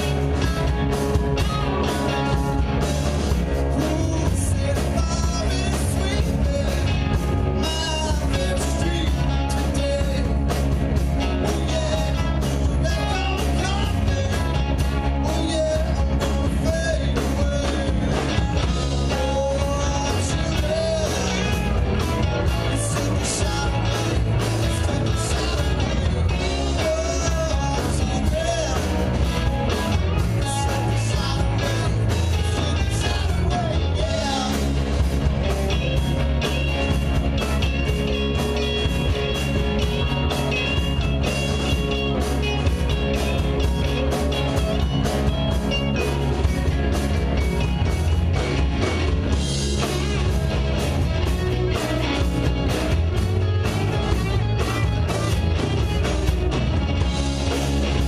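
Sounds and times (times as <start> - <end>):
bass guitar: 0.0 - 58.0
drums with cymbal hits: 0.0 - 58.0
electric guitar: 0.0 - 58.0.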